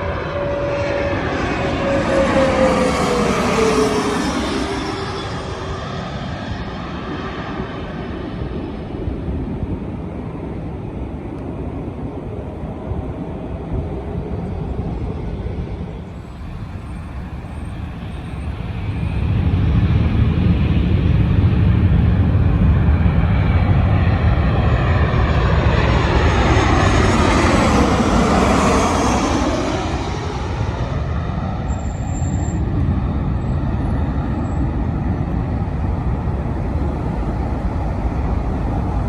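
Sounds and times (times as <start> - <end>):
jet airliner passing overhead: 0.0 - 39.0.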